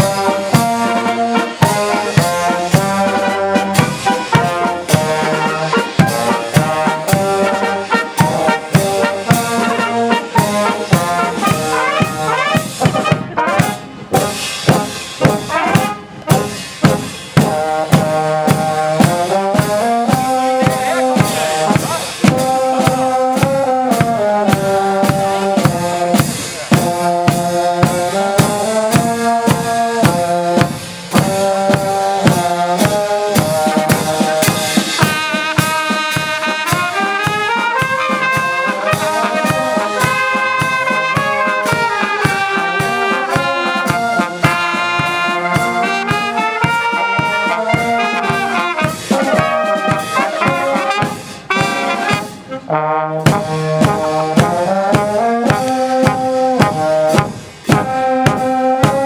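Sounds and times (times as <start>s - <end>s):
wind band playing: 0.0s - 59.0s
bass drum beat: 1.6s - 52.5s, 53.2s - 59.0s.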